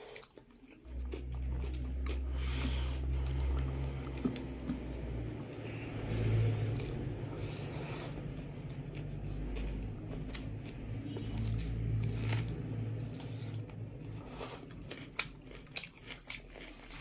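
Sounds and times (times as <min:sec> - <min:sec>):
chewing: 0:00.0 - 0:17.0
low steady rumble: 0:00.5 - 0:17.0.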